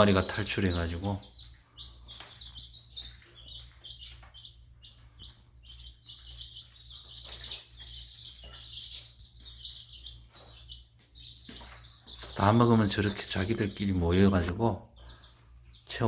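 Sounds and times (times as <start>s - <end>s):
chicks peeping: 0.0s - 16.0s
steady low hum: 0.0s - 16.0s.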